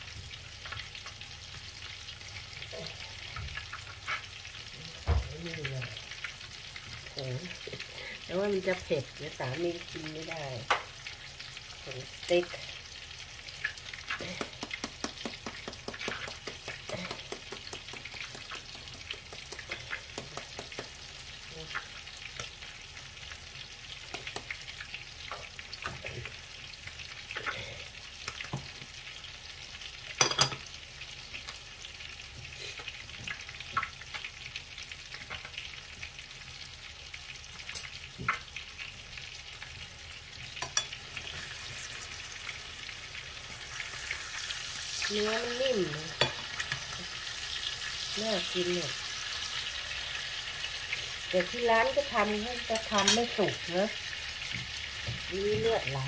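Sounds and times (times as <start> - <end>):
steaks sizzling in oil: 0.0 - 56.0.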